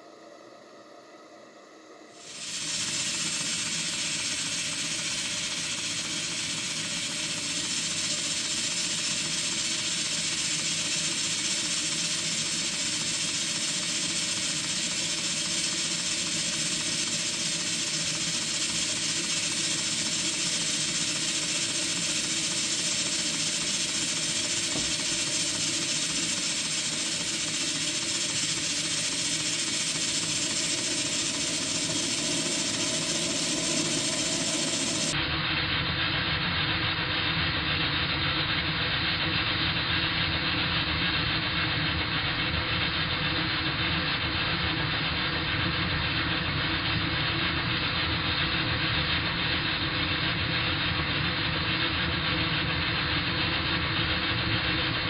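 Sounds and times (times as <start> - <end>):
model steam engine running: 2.2 - 55.0
steam hissing: 2.2 - 55.0.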